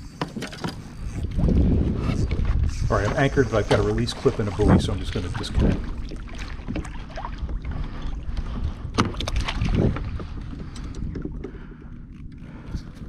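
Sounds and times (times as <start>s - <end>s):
water lapping against hull: 0.0s - 13.0s
wind rumbling on microphone: 0.0s - 13.0s.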